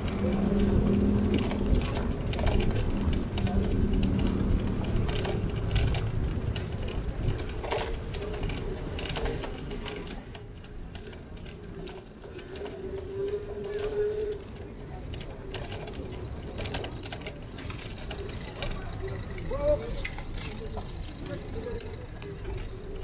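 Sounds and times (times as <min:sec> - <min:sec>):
bicycle clicks and rattles: 0:00.0 - 0:23.0
road and wind rumble: 0:00.0 - 0:23.0.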